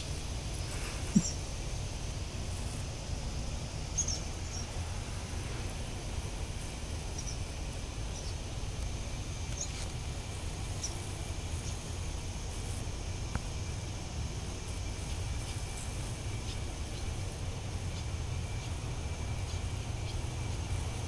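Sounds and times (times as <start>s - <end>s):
faint high whine: 0.0s - 21.0s
low outdoor rumble: 0.0s - 21.0s
small birds chirping: 0.0s - 21.0s.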